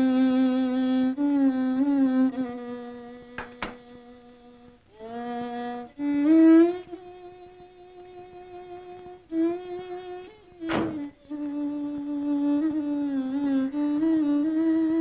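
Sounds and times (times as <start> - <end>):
solo melody film music: 0.0 - 15.0.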